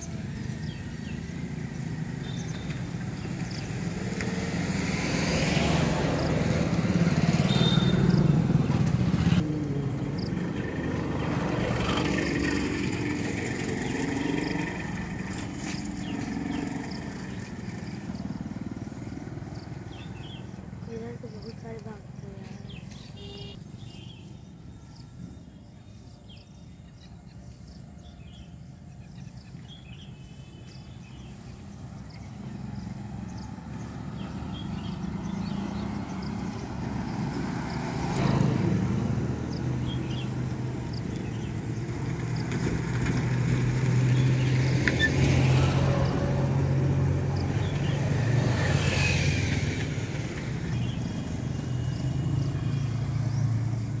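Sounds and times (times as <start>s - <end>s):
vehicle engine humming: 0.0s - 26.2s, 27.6s - 54.0s.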